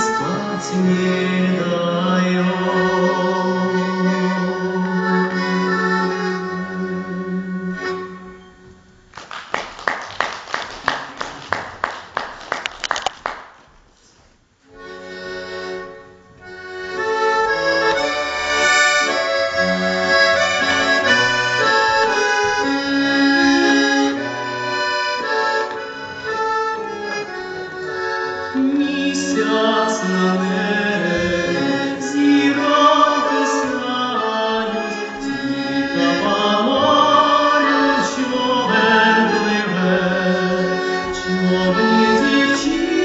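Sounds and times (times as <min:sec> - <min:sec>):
accordion playing: 0:00.0 - 0:09.2, 0:14.6 - 0:43.0.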